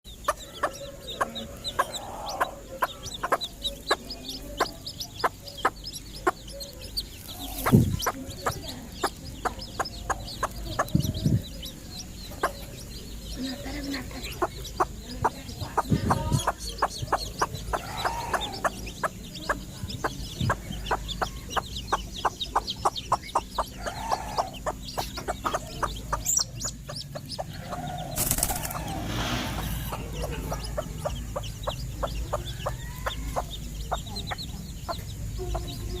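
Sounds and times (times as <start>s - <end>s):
hen clucking softly: 0.2s - 35.8s.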